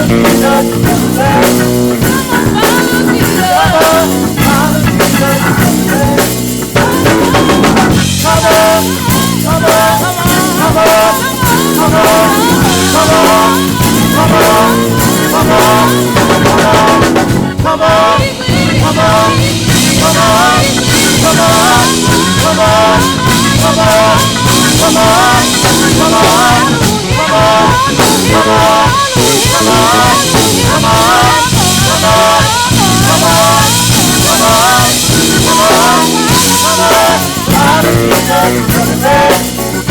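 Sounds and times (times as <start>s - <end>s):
drum kit groove: 0.0s - 39.9s
gospel band music: 0.0s - 39.9s.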